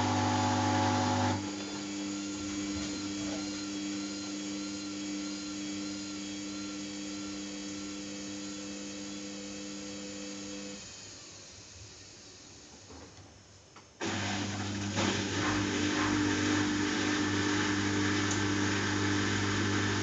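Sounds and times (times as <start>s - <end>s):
washing machine whine: 0.0s - 13.2s, 14.0s - 20.0s.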